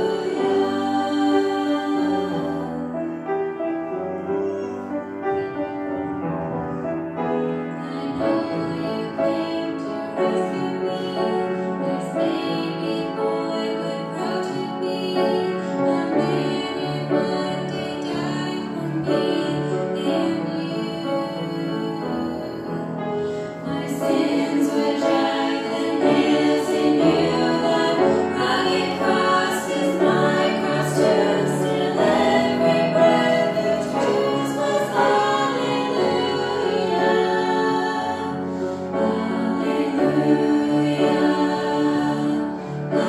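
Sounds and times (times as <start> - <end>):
girls singing together: 0.0 - 2.8, 7.8 - 22.9, 23.6 - 43.0
piano accompaniment: 0.0 - 43.0.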